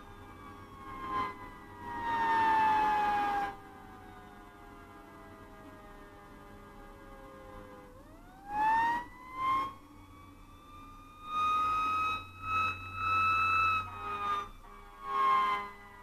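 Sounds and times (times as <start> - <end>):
fire engine siren: 0.0 - 16.0.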